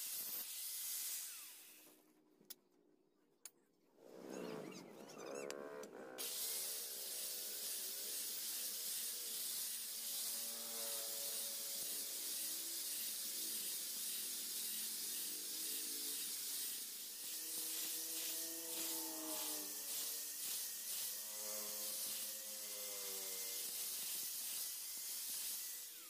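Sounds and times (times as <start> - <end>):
angle grinder grinding metal: 4.7 - 26.0.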